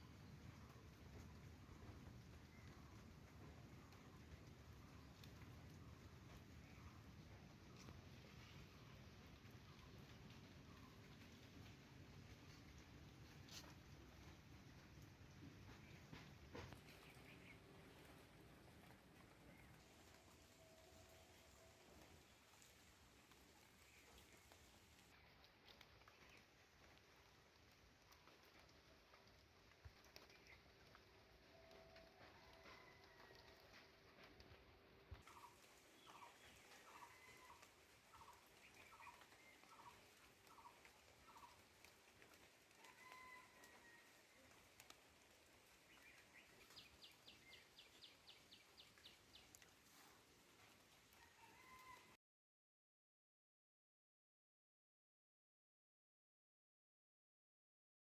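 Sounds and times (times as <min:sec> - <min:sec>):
rain hiss: 0:00.0 - 0:52.1.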